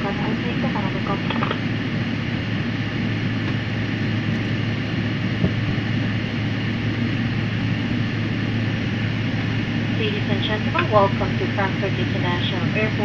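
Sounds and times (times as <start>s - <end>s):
airliner cabin engine and air noise: 0.0s - 13.0s.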